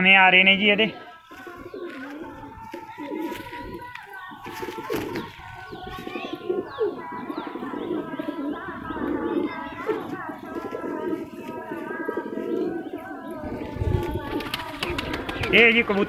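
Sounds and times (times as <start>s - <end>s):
pigeons cooing: 0.6s - 16.0s.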